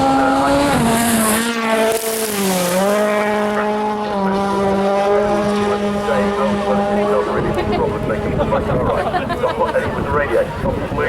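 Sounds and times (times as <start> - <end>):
rally car engine at high revs: 0.0 - 10.9.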